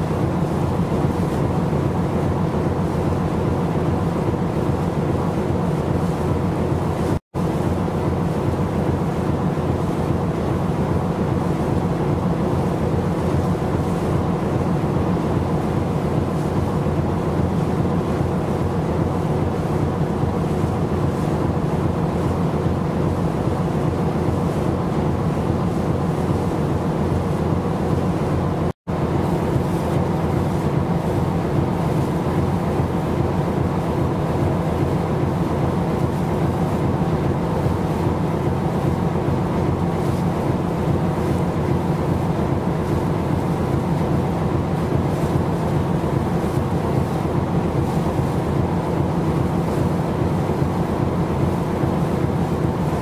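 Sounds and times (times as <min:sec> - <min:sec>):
ship engine drone: 0:00.0 - 0:53.0
wind and water hiss: 0:00.0 - 0:53.0.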